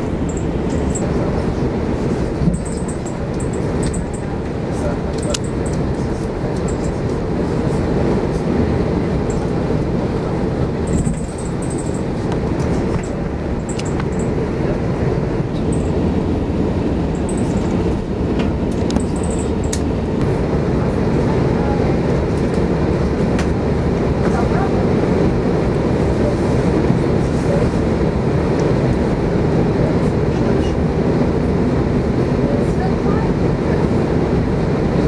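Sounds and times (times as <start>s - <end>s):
aircraft cabin rumble: 0.0s - 35.0s.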